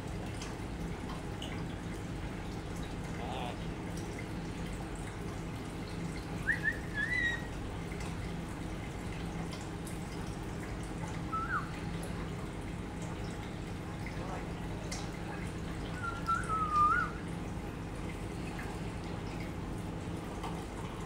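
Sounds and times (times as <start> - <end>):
water trickling into aquarium: 0.0 - 21.0.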